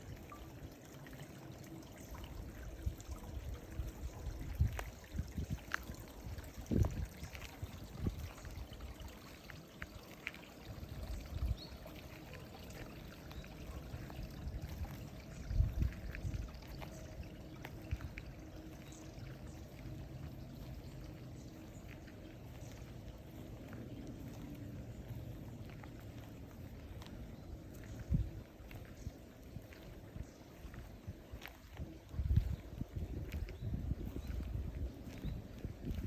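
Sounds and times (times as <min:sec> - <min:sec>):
stream trickling: 0:00.0 - 0:36.0.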